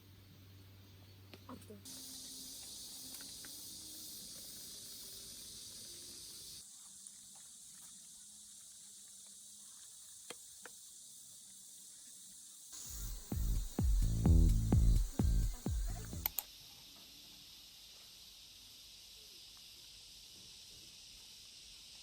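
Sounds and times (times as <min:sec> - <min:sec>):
high-pitched outdoor hiss: 0:00.0 - 0:22.0.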